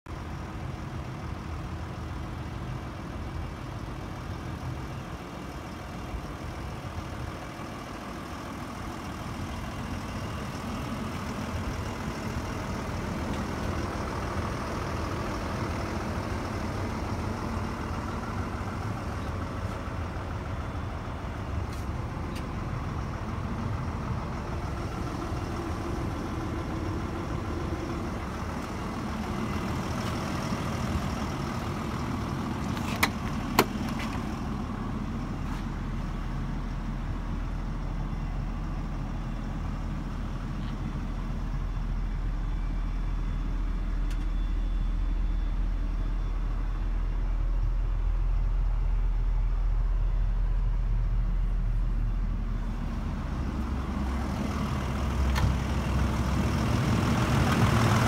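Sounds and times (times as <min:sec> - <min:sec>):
excavator diesel engine idling: 0:00.1 - 0:58.0.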